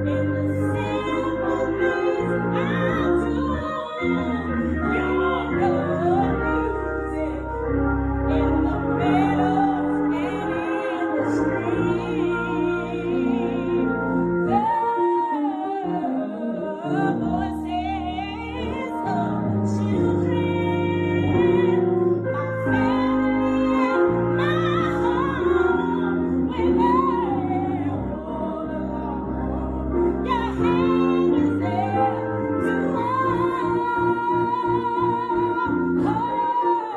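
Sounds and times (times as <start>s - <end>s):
gospel solo singer: 0.0s - 36.9s
keyboard chords and bass: 0.0s - 36.9s.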